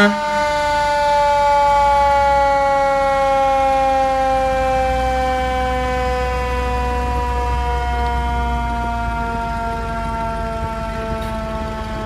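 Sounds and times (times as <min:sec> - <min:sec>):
siren falling tone: 0:00.0 - 0:12.0.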